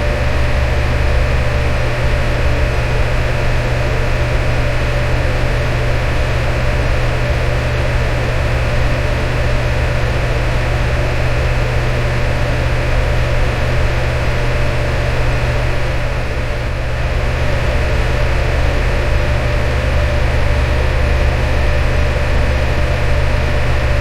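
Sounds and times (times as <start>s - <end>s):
electric fan running: 0.0s - 24.0s.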